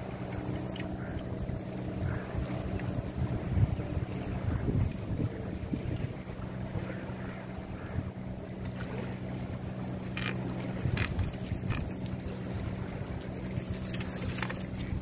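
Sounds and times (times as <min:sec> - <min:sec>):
low hum: 0:00.0 - 0:15.0
thin high steady whine: 0:00.0 - 0:15.0.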